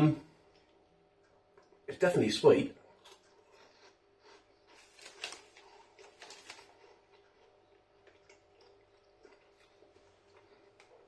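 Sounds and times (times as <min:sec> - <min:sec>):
person chewing corn puffs: 0:00.3 - 0:01.9, 0:02.8 - 0:11.0.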